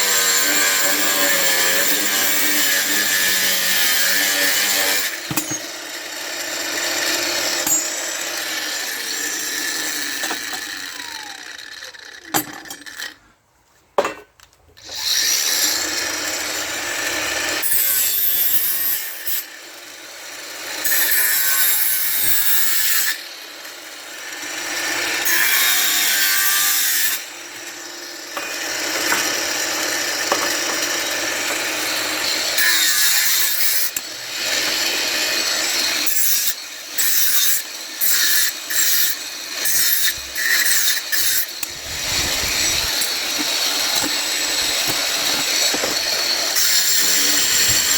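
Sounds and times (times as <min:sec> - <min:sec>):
saw cutting through metal: 0:00.0 - 0:13.2, 0:14.8 - 0:47.9.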